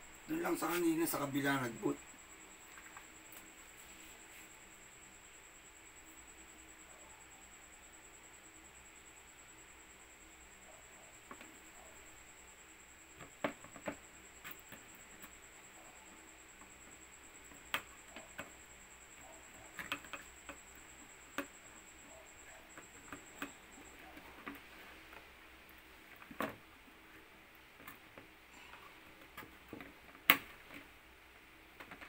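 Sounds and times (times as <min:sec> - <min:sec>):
faint high whine: 0:00.0 - 0:32.0.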